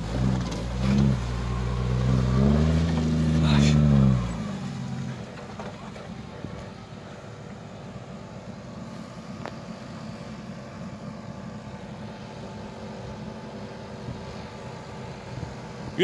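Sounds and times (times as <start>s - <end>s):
engine running at low revs: 0.0s - 16.0s.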